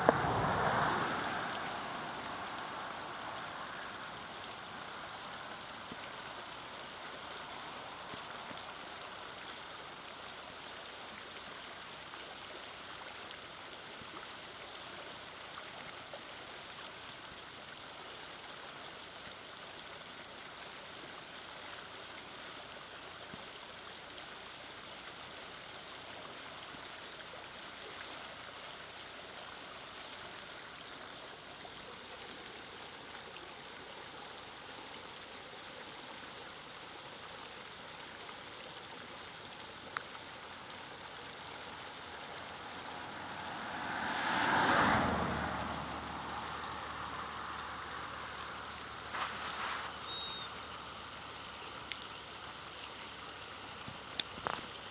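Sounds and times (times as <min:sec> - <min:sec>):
stream flowing over rocks: 0:00.0 - 0:54.9.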